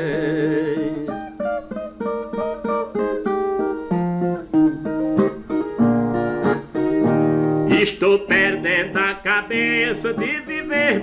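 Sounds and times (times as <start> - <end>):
strummed chords: 0.0 - 11.0.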